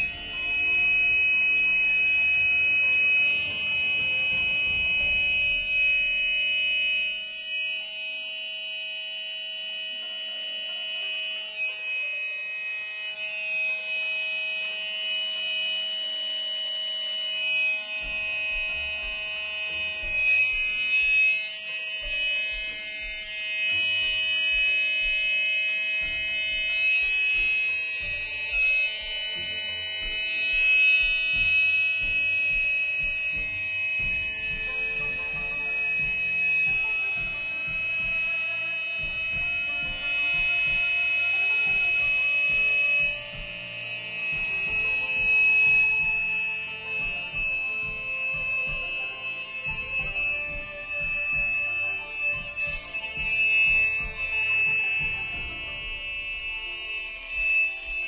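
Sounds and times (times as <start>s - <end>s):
air compressor buzzing whine: 0.0s - 58.0s.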